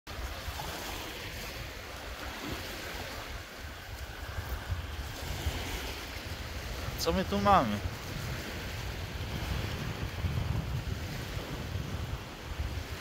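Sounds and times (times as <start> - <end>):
waves washing onto shore: 0.1 - 13.0
wind rumbling on microphone: 0.1 - 13.0.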